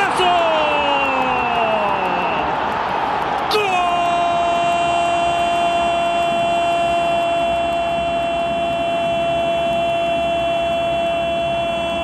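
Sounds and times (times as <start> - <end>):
stadium crowd noise: 0.0 - 12.0.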